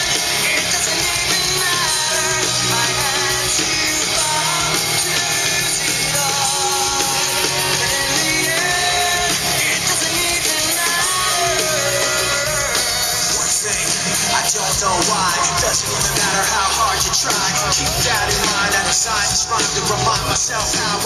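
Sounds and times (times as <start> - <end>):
rock song with vocals: 0.0 - 21.0.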